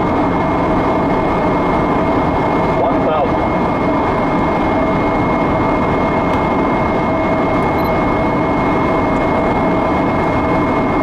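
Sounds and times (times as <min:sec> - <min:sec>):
high-pitched whine: 0:00.0 - 0:11.0
jet airflow and engine noise: 0:00.0 - 0:11.0.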